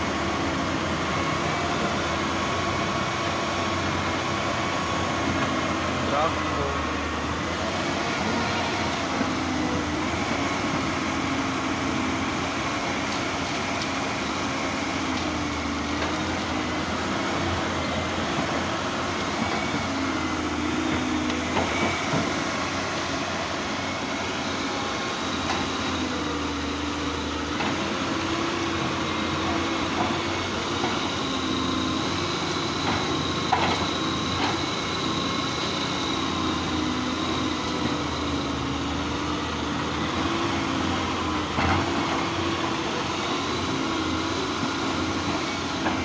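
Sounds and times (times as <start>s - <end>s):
excavator diesel engine working: 0.0s - 46.0s.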